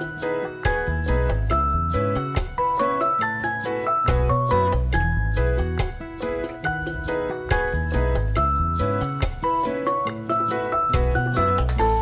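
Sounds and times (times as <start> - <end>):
upbeat plucked-string music: 0.0 - 12.0.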